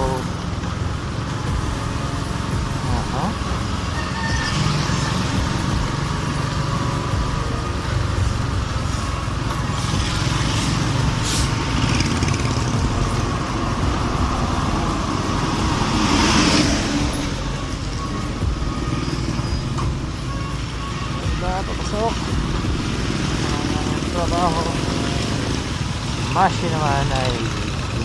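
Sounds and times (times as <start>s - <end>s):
motorcycle engine rumble: 0.0s - 28.0s.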